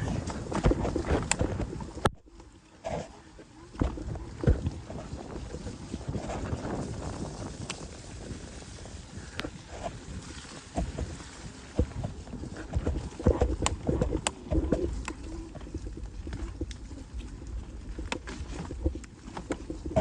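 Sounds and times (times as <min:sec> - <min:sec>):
bike clattering over rough trail: 0:00.0 - 0:02.2, 0:03.7 - 0:20.0
wind rumble on microphone: 0:00.0 - 0:20.0.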